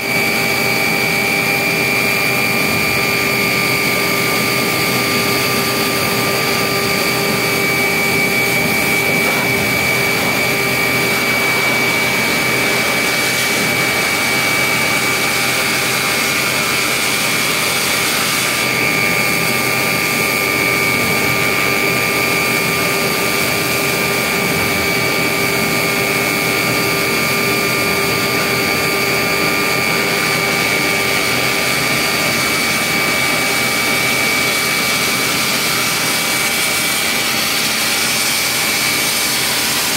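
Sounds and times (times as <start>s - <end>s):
high steady machine whine: 0.0s - 39.9s
concrete spraying machine hiss: 0.6s - 39.9s.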